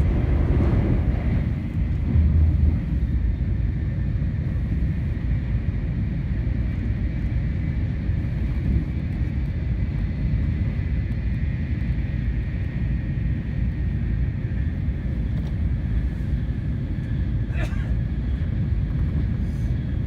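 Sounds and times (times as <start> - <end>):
train cabin low rumble: 0.0 - 20.0.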